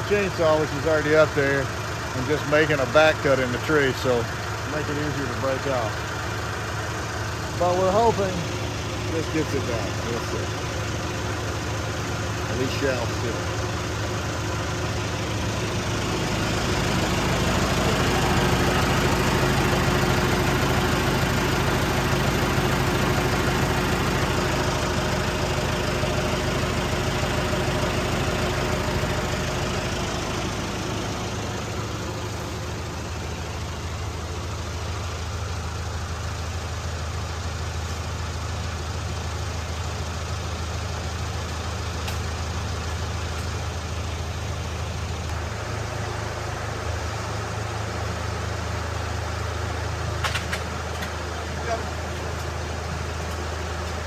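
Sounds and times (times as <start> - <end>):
wood chipper engine running: 0.0 - 54.0.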